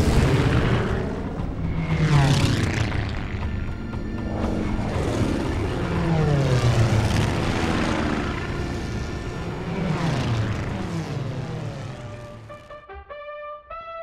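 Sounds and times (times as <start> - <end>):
propeller plane engines droning: 0.0 - 12.8.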